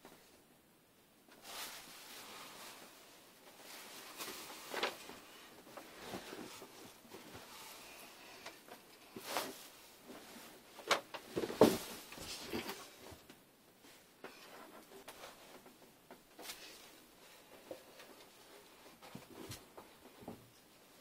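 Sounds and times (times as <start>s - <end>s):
clothing rustling: 1.3s - 21.0s.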